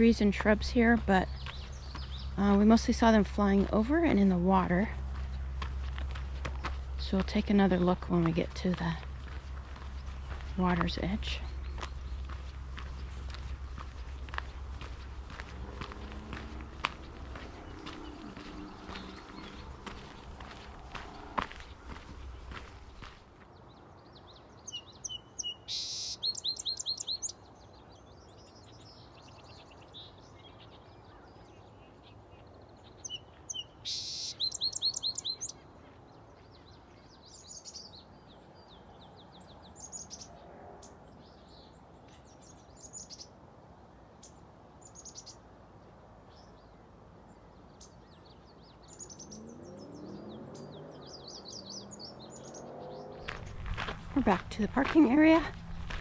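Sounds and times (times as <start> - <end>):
bird song of rapidly repeated notes: 0.0 - 43.4, 44.1 - 55.8
songbirds singing and chirping: 0.0 - 56.0.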